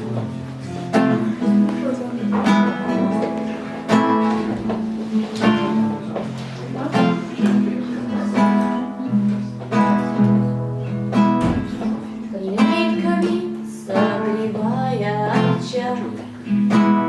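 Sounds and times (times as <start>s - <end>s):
acoustic guitar blues chords: 0.0s - 17.0s.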